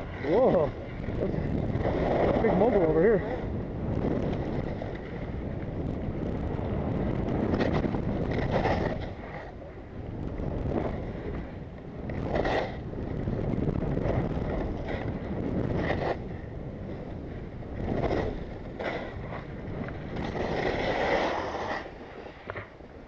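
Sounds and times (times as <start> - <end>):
skis scraping on snow: 0.0 - 5.5, 6.5 - 23.0
wind rushing over microphone: 0.0 - 23.0.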